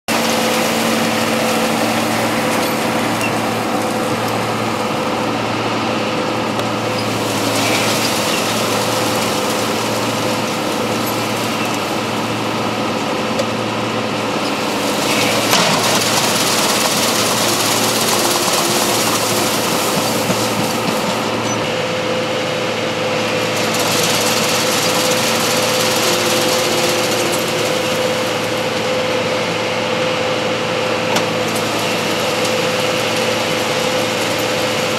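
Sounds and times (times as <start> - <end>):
diesel engine running under load: 0.0 - 34.9
steady whine: 0.1 - 34.3.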